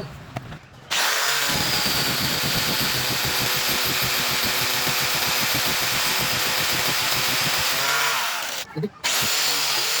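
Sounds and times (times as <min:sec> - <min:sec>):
angle grinder on steel: 0:00.9 - 0:10.0.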